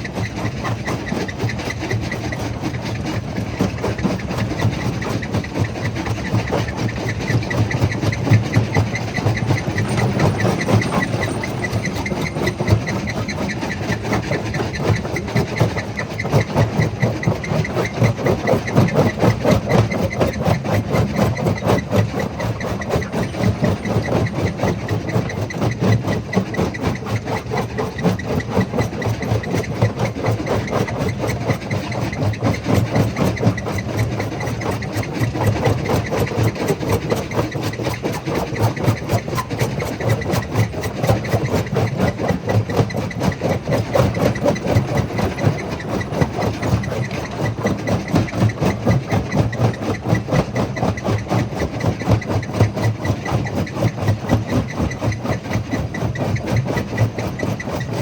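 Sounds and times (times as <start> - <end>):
jaw crusher pulsing: 0.0 - 58.0.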